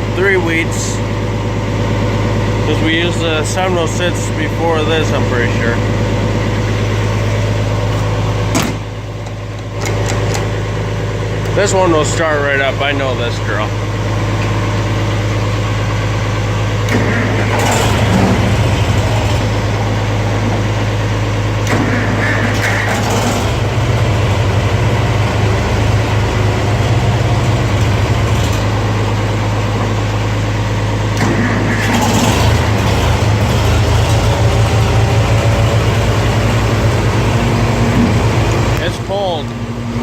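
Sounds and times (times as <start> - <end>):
tractor engine starting and running: 0.0 - 40.0.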